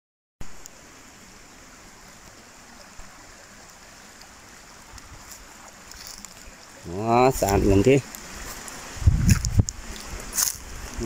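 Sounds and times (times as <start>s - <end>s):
stream water rushing over rocks: 0.4s - 11.0s.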